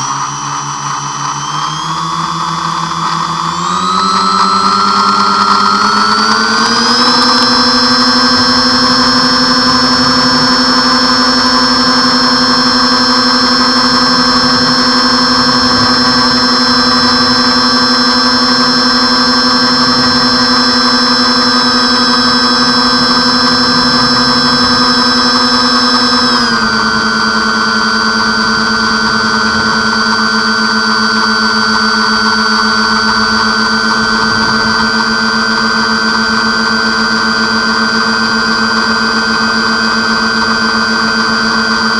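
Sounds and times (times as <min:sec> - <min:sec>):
model airplane motors whining: 0:00.0 - 0:41.9.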